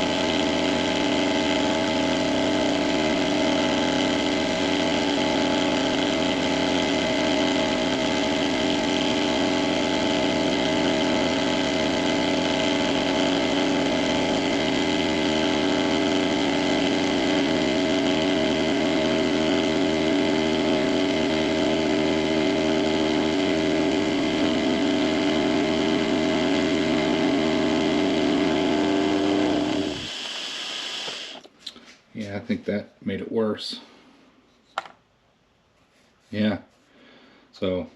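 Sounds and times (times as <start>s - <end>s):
milling machine running: 0.0s - 31.5s.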